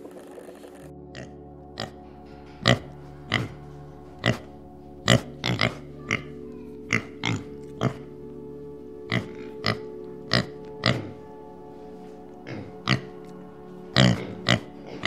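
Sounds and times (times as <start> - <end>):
pigs grunting: 0.0 - 8.1, 9.1 - 11.3, 12.4 - 15.0
background music: 0.0 - 15.0.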